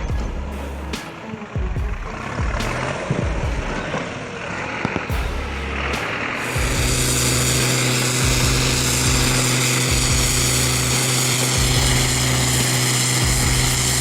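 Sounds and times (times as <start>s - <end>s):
large engine droning: 0.0s - 14.0s.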